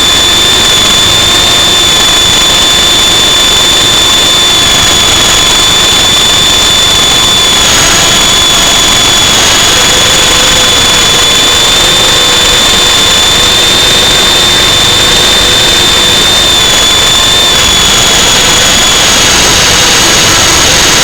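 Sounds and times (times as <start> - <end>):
high-pitched motor whine: 0.0 - 21.0.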